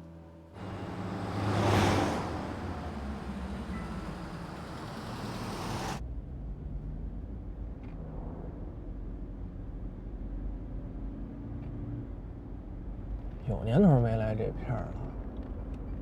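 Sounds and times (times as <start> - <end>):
road traffic rumble: 0.6 - 16.0.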